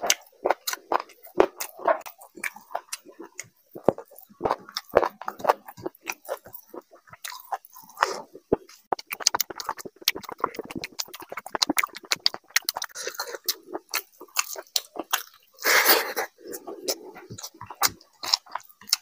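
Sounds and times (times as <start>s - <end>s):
wet chewing and lip smacks: 0.0s - 15.6s, 16.2s - 19.0s.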